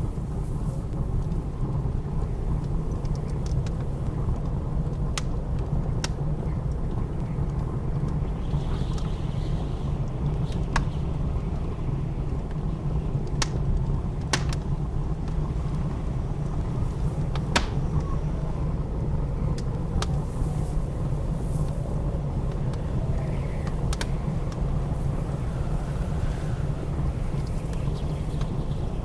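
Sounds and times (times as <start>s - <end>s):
wood fire crackling: 0.0s - 9.2s, 10.0s - 29.0s
blizzard wind rumble: 0.0s - 29.0s.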